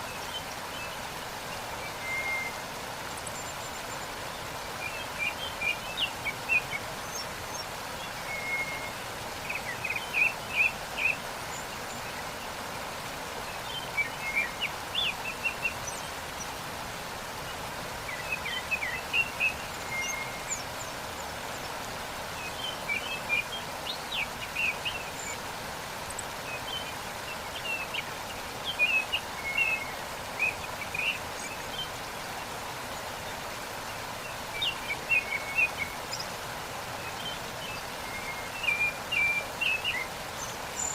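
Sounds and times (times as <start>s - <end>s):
small birds chirping: 0.0s - 40.9s
waterfall rushing: 0.0s - 40.9s.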